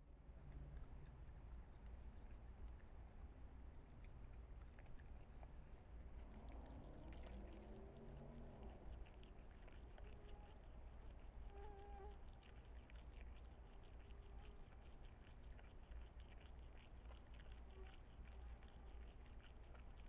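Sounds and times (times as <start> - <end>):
low steady hum and hiss: 0.0 - 20.0
animal chewing and smacking: 0.4 - 20.0.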